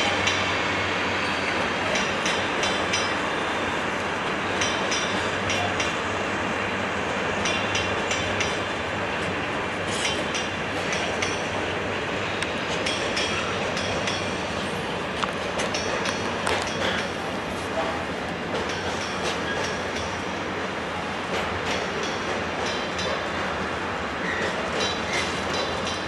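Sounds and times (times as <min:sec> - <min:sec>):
metallic clicks from train wheels: 0:00.0 - 0:00.6, 0:01.2 - 0:06.0, 0:07.3 - 0:11.8, 0:12.4 - 0:26.0
freight train rumbling past: 0:00.0 - 0:26.0.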